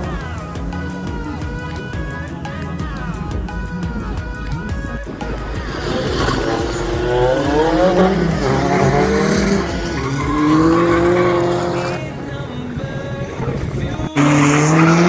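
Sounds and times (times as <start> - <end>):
race car accelerating: 0.0 - 15.0.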